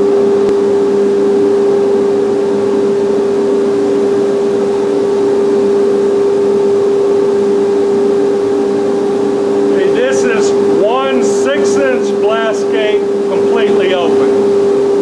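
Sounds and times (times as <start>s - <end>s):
dust collector blower humming: 0.0s - 15.0s.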